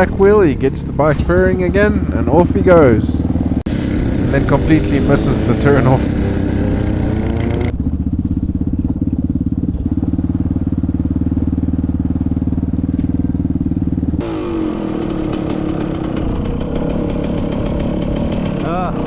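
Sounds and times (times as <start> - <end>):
quad engine pulsing at speed: 0.0 - 19.0
two-stroke dirtbike engine: 0.0 - 19.0.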